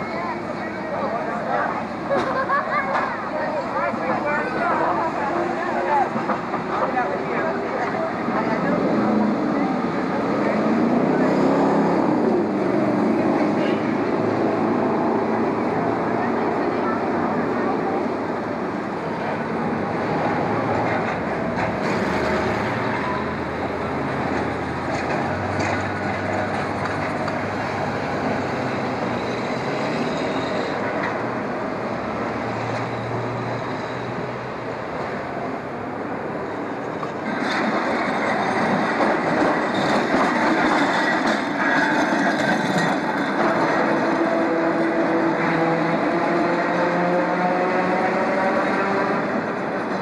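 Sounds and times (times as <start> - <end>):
streetcar wheels rumbling on rails: 0.0 - 50.0.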